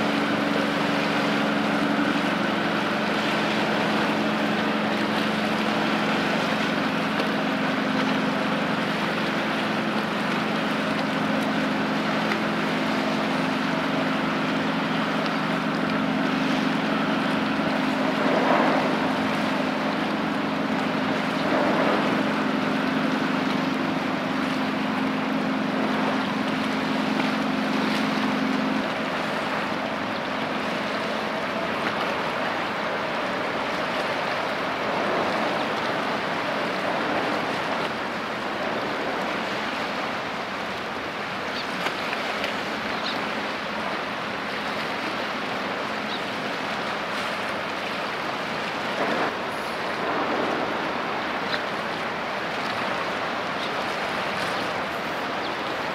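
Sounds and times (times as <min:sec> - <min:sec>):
rush of wind and water: 0:00.0 - 0:55.9
ship engine hum: 0:00.0 - 0:55.9.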